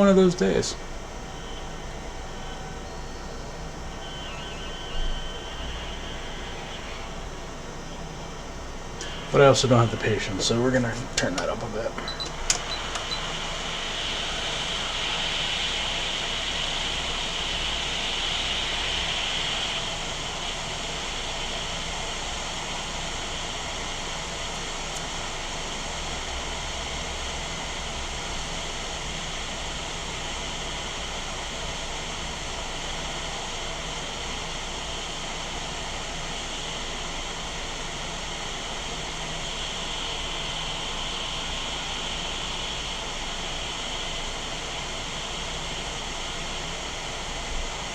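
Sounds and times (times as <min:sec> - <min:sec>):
hot air station hissing: 0:00.0 - 0:47.9.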